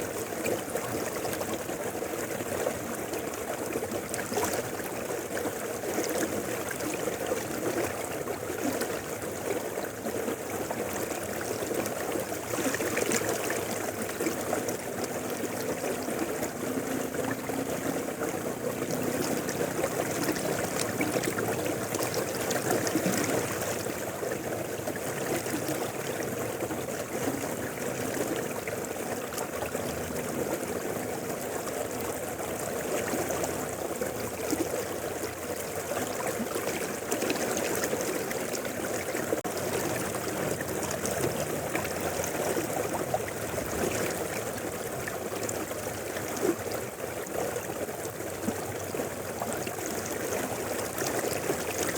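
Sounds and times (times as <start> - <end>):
river flowing over rocks: 0.0 - 51.9.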